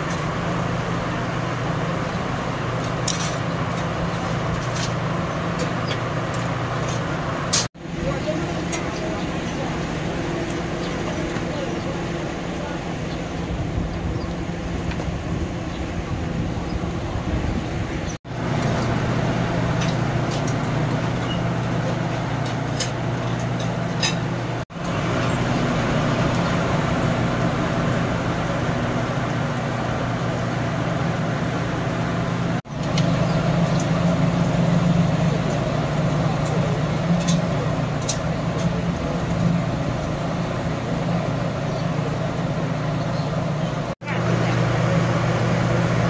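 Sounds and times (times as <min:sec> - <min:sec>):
low engine hum: 0:00.0 - 0:46.0
street traffic noise: 0:00.0 - 0:46.0.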